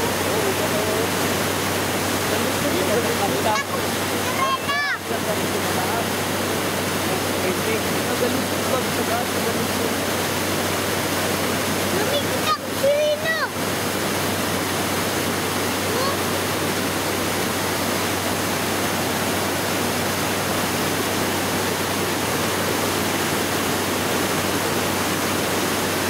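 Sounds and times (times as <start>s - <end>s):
waterfall rushing: 0.0s - 26.0s
white-water rapids: 0.0s - 26.0s.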